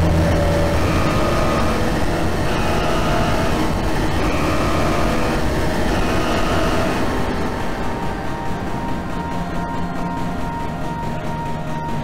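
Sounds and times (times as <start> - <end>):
distorted rumbling drone: 0.0 - 12.0.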